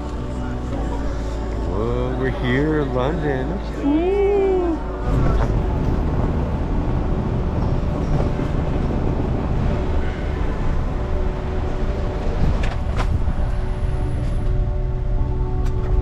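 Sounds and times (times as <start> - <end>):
vehicle rumbling in motion: 0.0 - 16.0.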